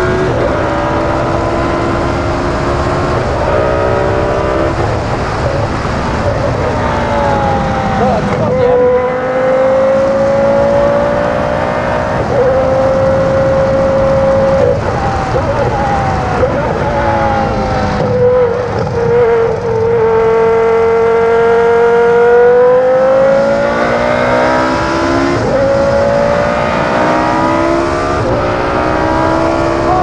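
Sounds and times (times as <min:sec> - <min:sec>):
racing car engine at high revs: 0:00.0 - 0:30.0.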